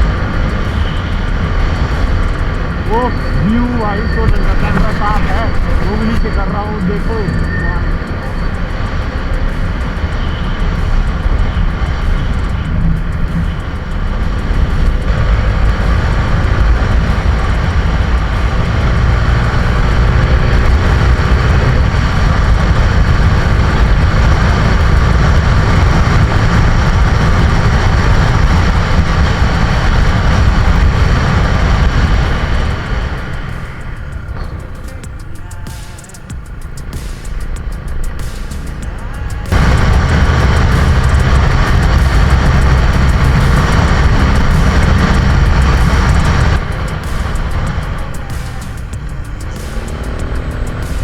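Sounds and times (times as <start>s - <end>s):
motorcycle engine running: 0.0s - 51.0s
wind rushing on microphone: 0.0s - 51.0s.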